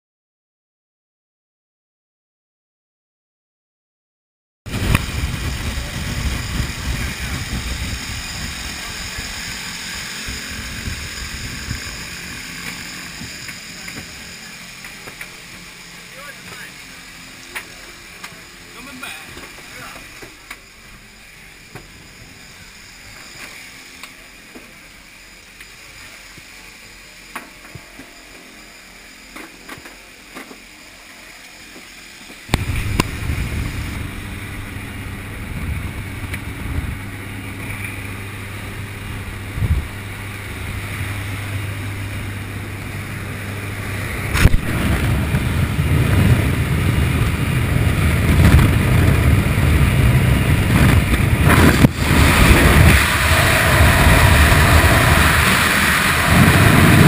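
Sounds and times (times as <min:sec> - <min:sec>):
rushing air: 0:04.7 - 0:26.8, 0:32.4 - 0:57.0
aircraft engine droning: 0:04.7 - 0:57.0.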